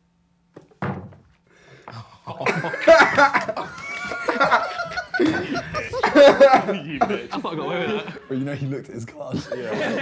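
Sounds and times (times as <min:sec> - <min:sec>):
men laughing: 0:01.9 - 0:10.0.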